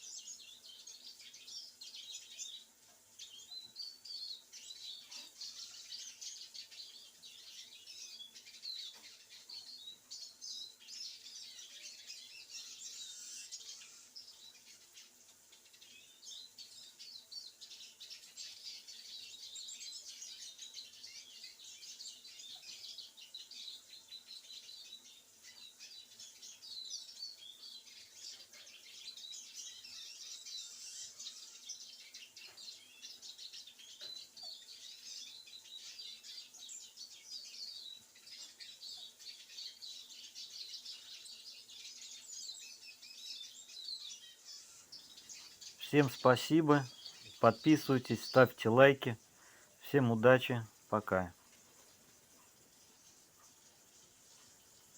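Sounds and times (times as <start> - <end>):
songbirds chirping and twittering: 0.0 - 54.9.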